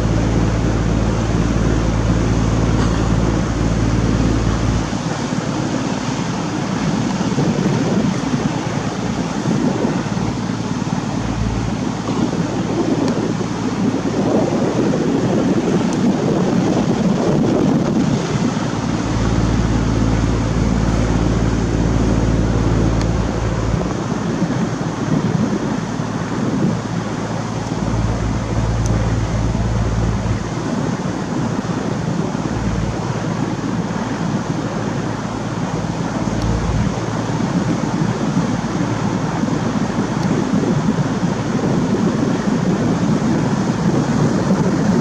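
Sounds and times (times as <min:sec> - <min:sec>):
boat engine humming: 0:00.0 - 0:45.0
water wash: 0:00.0 - 0:45.0
wind buffeting microphone: 0:00.0 - 0:45.0.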